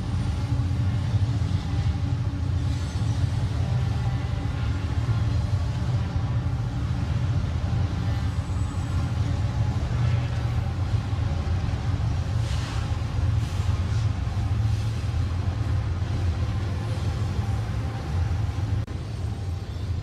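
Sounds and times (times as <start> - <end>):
freight train rumbling over bridge: 0.0 - 20.0.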